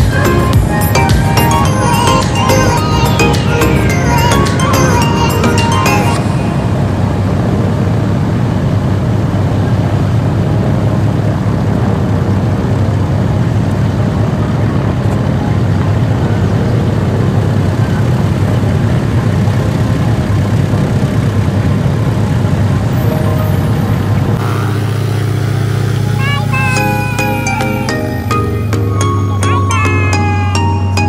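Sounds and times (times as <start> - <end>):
propeller aircraft engines rumbling: 0.0 - 31.0.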